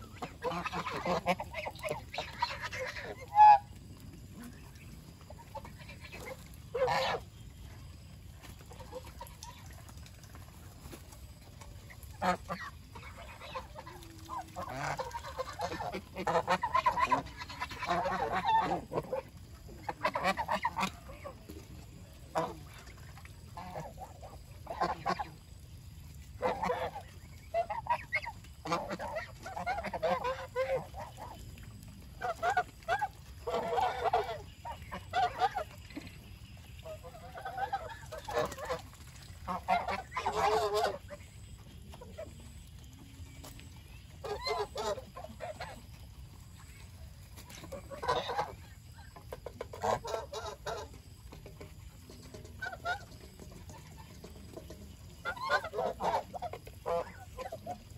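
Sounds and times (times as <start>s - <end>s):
geese honking: 0.0s - 10.0s, 11.5s - 25.6s, 26.4s - 42.6s, 43.5s - 57.9s.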